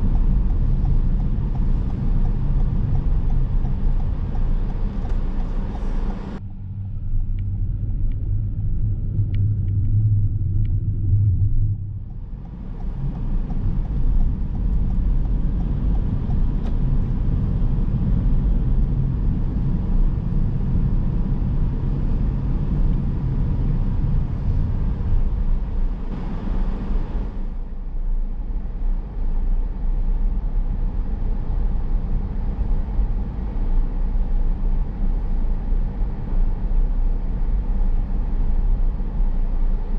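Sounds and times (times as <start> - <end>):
car engine hum: 0.0 - 39.9
road tyre noise: 0.0 - 39.9.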